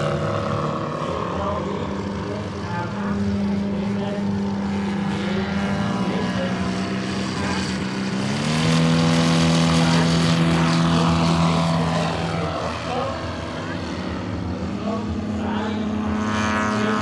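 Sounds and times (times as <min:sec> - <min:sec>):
louder engine at full power: 0:00.0 - 0:17.0
model airplane propeller engines: 0:00.0 - 0:17.0.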